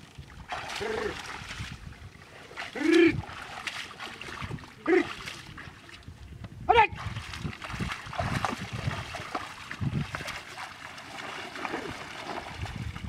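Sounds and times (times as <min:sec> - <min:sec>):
mud and water sloshing: 0:00.0 - 0:13.0.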